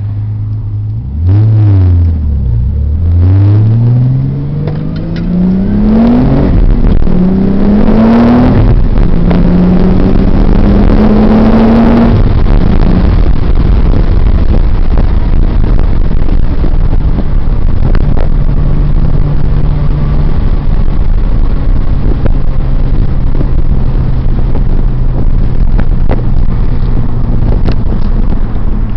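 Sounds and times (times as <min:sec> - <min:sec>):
road noise: 0:00.0 - 0:28.9
turbo rushing noise: 0:00.0 - 0:28.9
car engine revving through gears: 0:00.9 - 0:28.9.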